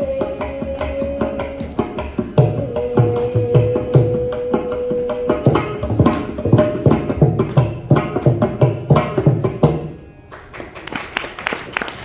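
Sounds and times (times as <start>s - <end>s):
hand drum strokes: 0.0s - 10.0s.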